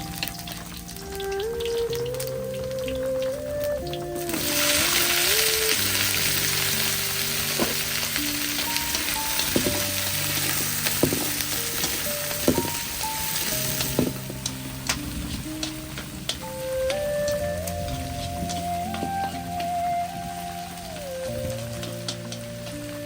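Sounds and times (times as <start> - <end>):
food sizzling in hot oil: 0.0 - 23.0
soft background music: 0.0 - 23.0.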